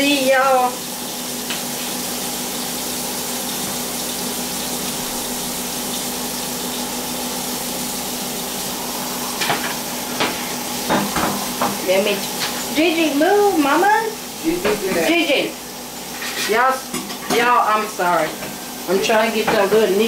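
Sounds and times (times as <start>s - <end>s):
steak sizzling in a skillet: 0.0s - 20.0s.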